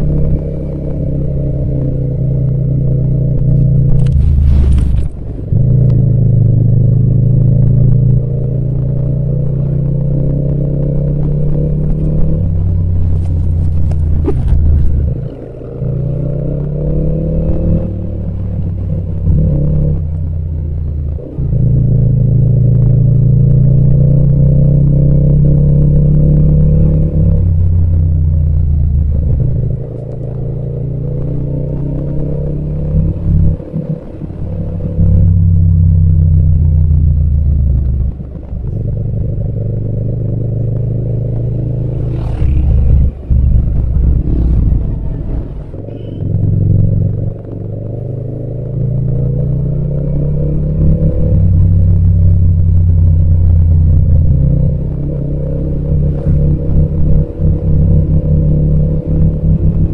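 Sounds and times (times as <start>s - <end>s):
motorcycle engine under throttle: 0.0s - 59.9s.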